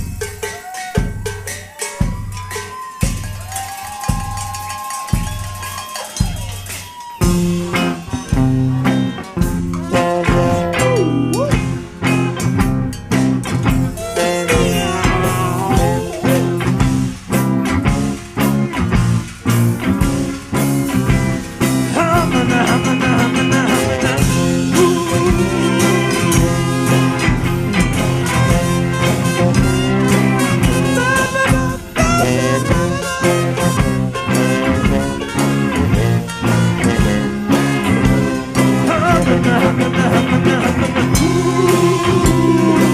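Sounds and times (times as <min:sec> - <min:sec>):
band playing blues swing: 0:00.0 - 0:42.9.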